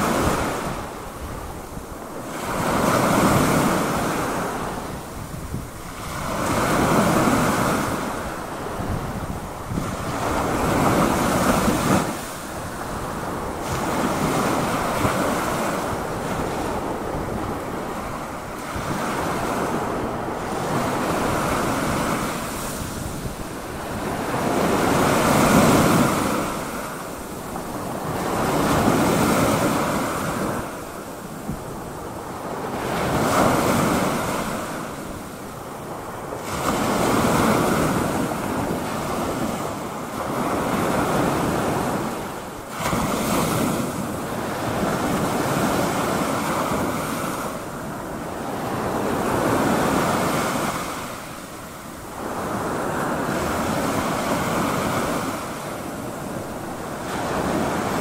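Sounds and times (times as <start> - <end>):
waves breaking and washing in: 0.0 - 58.0.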